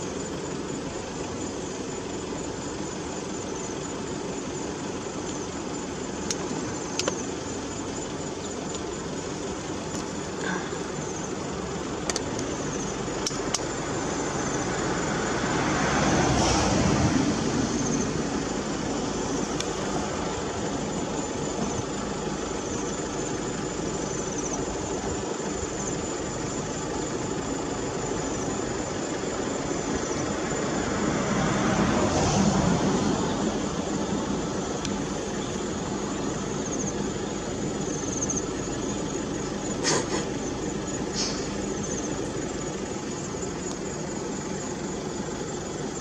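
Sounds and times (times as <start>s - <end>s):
road noise: 0.0s - 46.0s
vehicle engine running: 0.0s - 46.0s.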